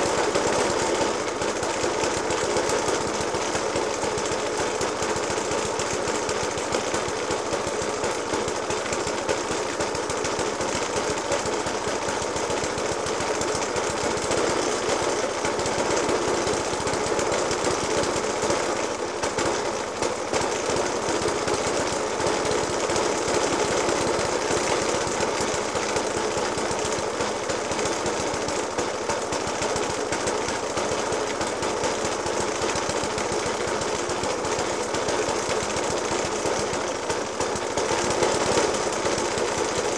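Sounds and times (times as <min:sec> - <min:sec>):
lawnmower engine idling roughly: 0:00.0 - 0:39.9.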